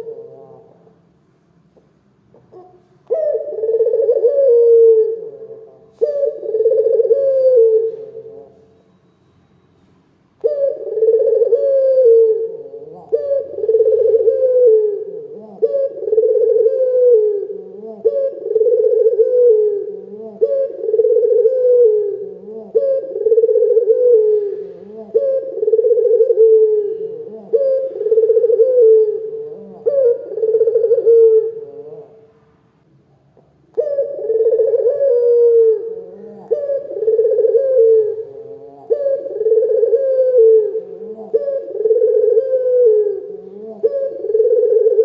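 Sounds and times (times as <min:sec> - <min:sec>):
dove cooing: 0:00.0 - 0:01.0, 0:02.3 - 0:08.8, 0:10.4 - 0:32.3, 0:33.4 - 0:45.0.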